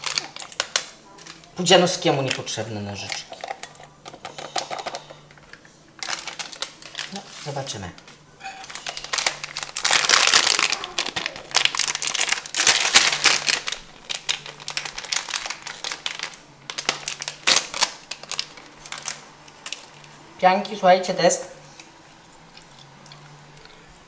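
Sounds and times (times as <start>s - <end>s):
foil wrapper crinkling: 0.0s - 20.2s.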